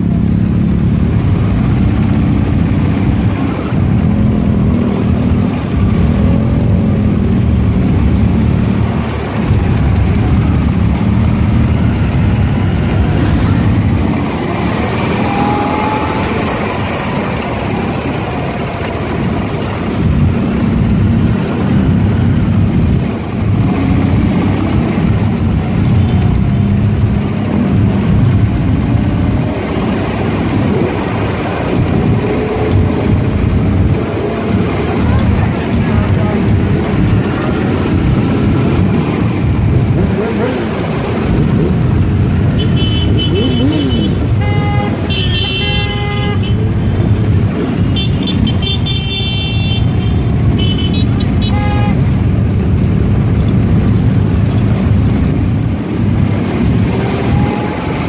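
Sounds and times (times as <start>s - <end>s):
group of motorcycle engines: 0.0s - 58.0s
motorcycle engine running: 0.0s - 58.0s.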